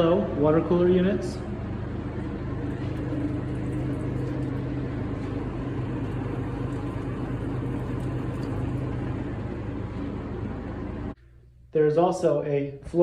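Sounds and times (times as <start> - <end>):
machine humming and rumbling: 0.0 - 13.0.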